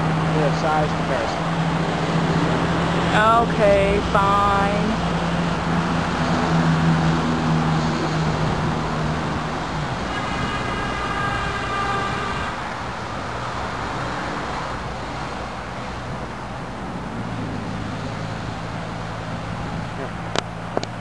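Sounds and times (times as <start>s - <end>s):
high multi-tone whine: 0.0s - 21.0s
road traffic hum: 0.0s - 21.0s.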